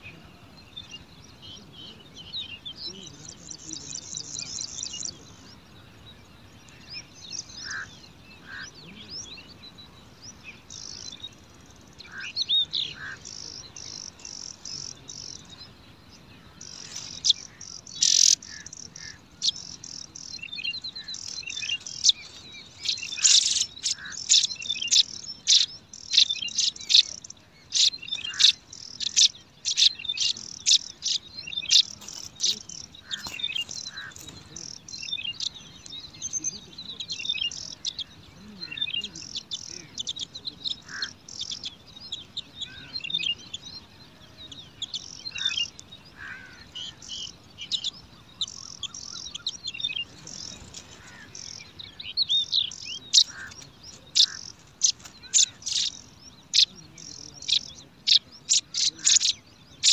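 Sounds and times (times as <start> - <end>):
nestlings chirping: 0.8 - 5.6, 6.7 - 59.9.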